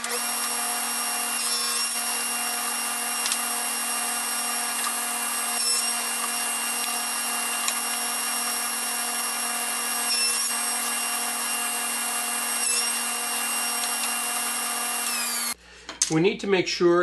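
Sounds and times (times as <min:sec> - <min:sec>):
table saw whining: 0:00.0 - 0:15.6.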